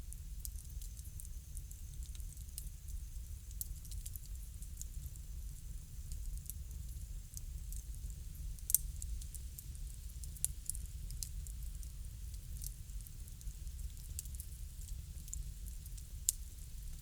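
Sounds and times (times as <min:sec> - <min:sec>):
bonfire crackling and popping: 0:00.1 - 0:17.0.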